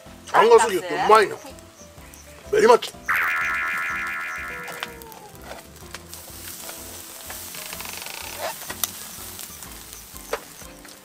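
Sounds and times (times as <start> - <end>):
soft background music: 0.0 - 11.0
steak sizzling on a grill: 0.0 - 11.0.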